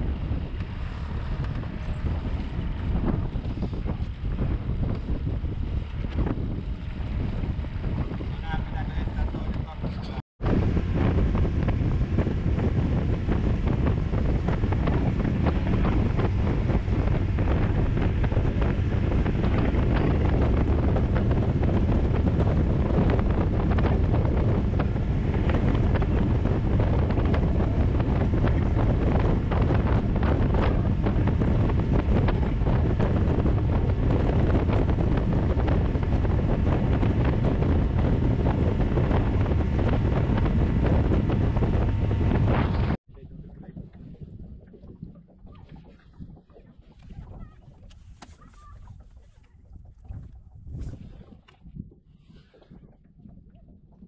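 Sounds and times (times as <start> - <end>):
water rushing along hull: 0.0 - 54.0
wind buffeting microphone: 0.0 - 54.0.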